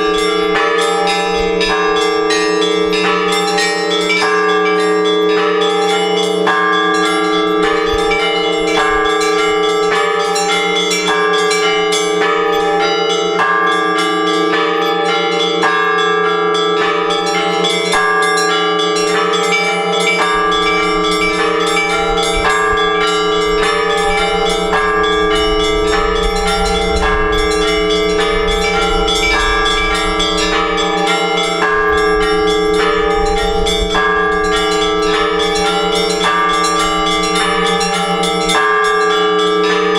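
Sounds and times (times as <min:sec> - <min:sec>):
hum of large bells: 0:00.0 - 0:39.9
small church bells struck quickly: 0:00.0 - 0:39.9.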